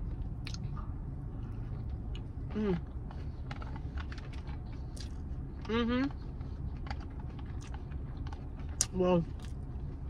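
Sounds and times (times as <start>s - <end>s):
steady low rumble: 0.0s - 10.0s
person chewing: 0.1s - 0.8s, 1.5s - 10.0s.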